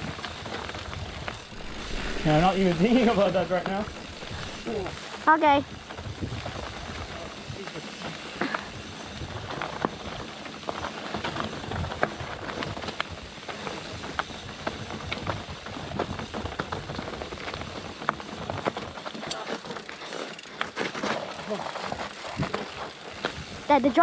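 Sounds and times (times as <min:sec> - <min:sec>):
bike rattling clicks and knocks: 0:00.0 - 0:24.0
bike tyres on dirt trail: 0:00.0 - 0:24.0.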